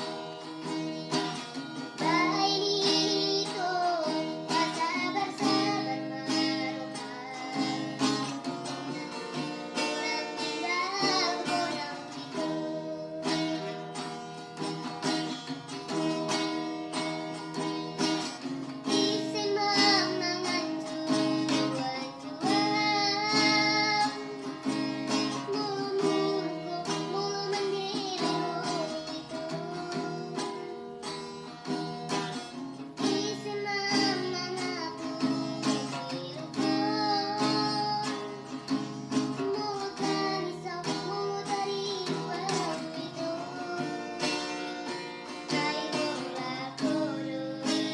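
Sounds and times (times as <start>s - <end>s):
person singing: 0.0s - 15.0s, 15.9s - 31.0s, 32.9s - 47.9s
strummed acoustic guitar: 0.0s - 47.9s.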